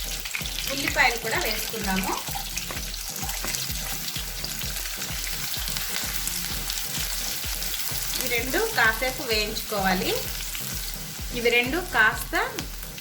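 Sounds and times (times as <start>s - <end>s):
onions sizzling in hot oil: 0.0s - 13.0s
stirring in a pan: 0.0s - 13.0s.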